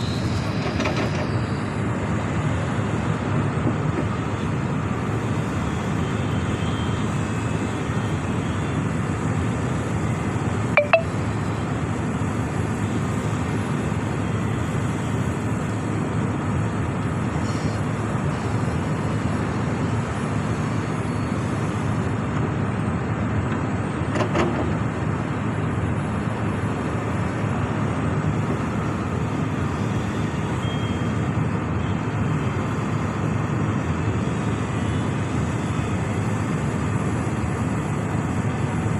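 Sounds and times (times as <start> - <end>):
diesel excavator running: 0.0 - 38.9.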